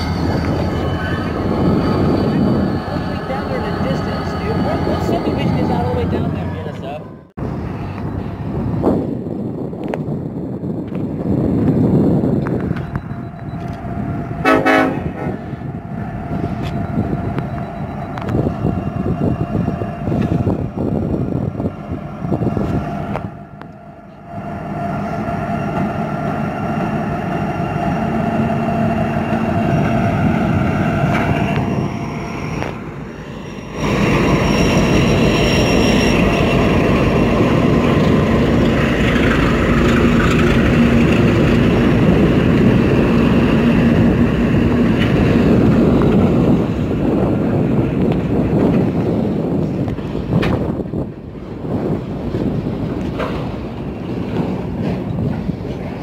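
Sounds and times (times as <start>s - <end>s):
train wheels rolling: 0.0s - 6.8s, 15.2s - 56.0s
diesel locomotive engines rumbling: 0.0s - 56.0s.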